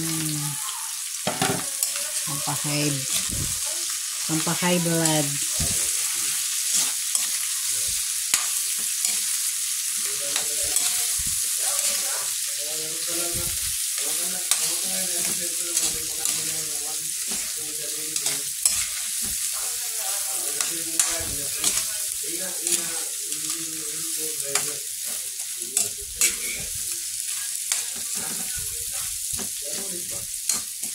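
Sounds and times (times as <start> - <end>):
shrimp sizzling in pan: 0.0 - 30.9
spatula scraping pan: 1.3 - 30.9.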